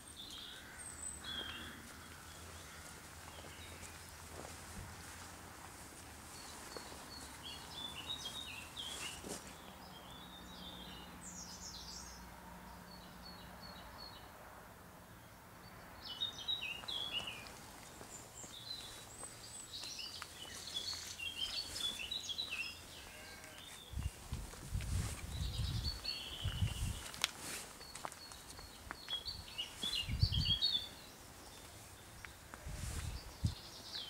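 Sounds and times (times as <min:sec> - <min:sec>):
songbirds singing: 0:00.0 - 0:14.3, 0:15.1 - 0:34.0.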